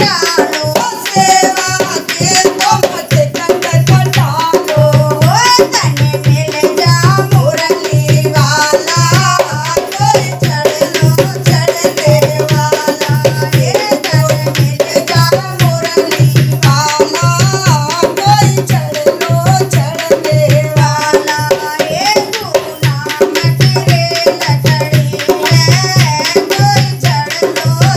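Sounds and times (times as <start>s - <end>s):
hand drum beat: 0.0s - 27.9s
women singing devotional song: 0.0s - 27.9s.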